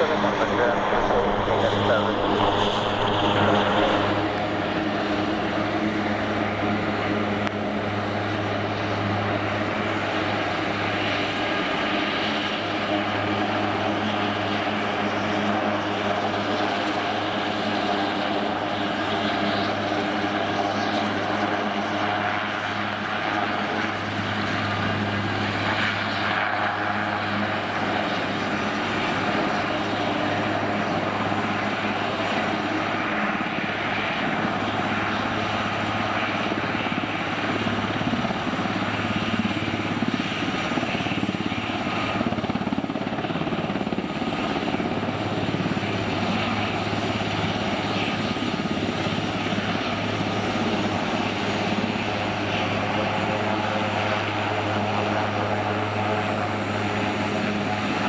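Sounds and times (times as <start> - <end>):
helicopter engines and rotors: 0.0 - 58.0.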